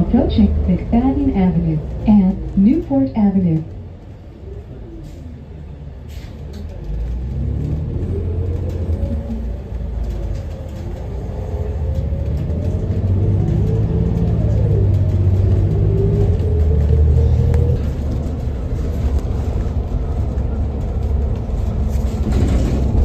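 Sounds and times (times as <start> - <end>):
bus engine rumble with whine: 0.0 - 23.0.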